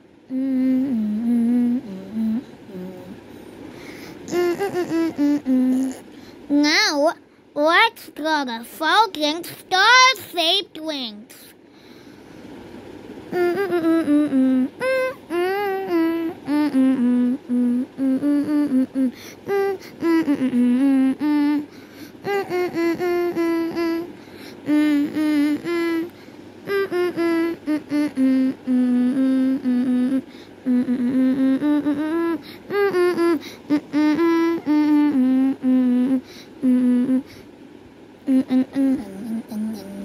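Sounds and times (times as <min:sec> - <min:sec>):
person humming a tune: 0:00.0 - 0:07.1, 0:13.3 - 0:37.4, 0:38.2 - 0:40.0.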